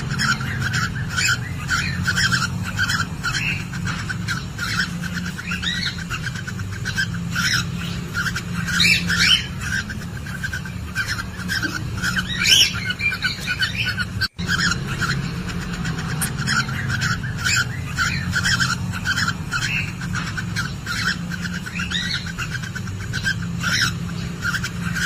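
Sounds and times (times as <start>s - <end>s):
cockatiels chirping: 0.0s - 25.0s
steady low hum: 0.0s - 25.0s.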